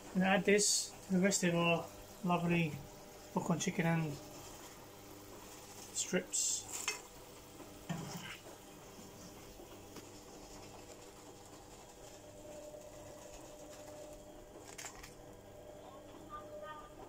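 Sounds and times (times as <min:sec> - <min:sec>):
faint hum and hiss: 0:00.0 - 0:17.0.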